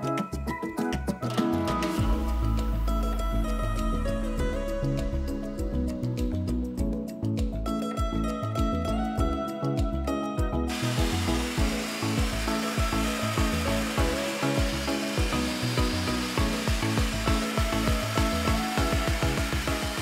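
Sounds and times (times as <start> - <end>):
background music with steady beat: 0.0 - 20.0.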